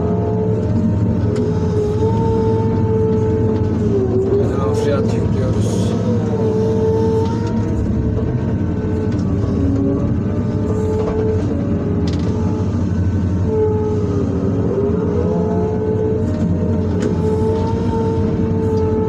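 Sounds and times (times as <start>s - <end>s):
excavator diesel engine: 0.0s - 19.0s
hydraulics whining: 0.0s - 19.0s.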